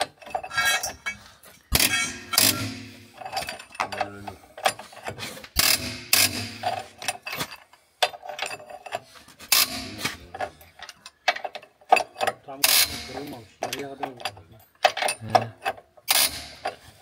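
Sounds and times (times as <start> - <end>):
metal tools clanking: 0.0 - 17.0.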